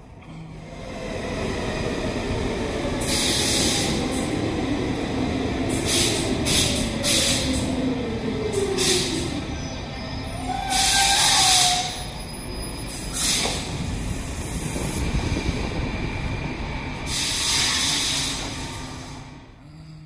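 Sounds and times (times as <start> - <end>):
metro train rumble: 0.0 - 20.0.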